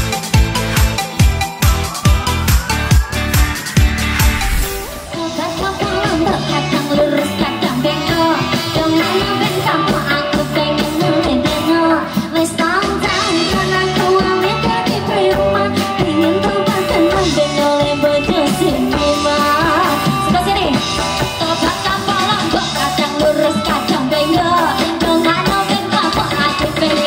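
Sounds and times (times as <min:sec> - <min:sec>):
pop-rock song with singer: 0:00.0 - 0:27.0.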